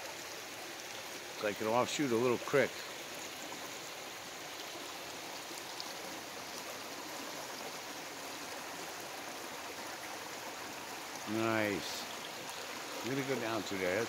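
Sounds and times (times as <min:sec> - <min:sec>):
creek running over rocks: 0:00.0 - 0:14.0.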